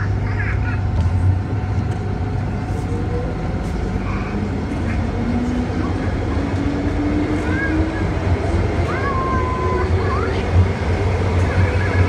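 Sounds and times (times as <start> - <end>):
train rumble and hum: 0.0 - 12.0.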